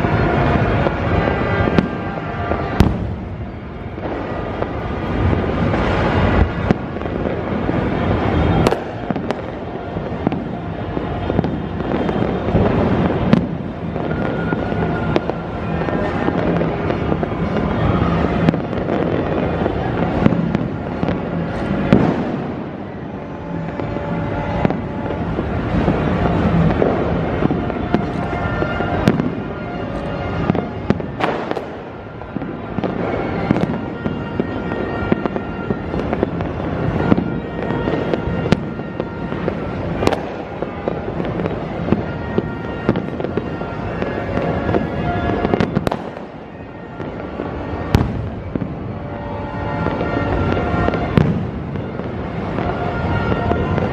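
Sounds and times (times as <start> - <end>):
firecracker bangs: 0.0 - 53.9
fireworks crackling: 0.0 - 53.9.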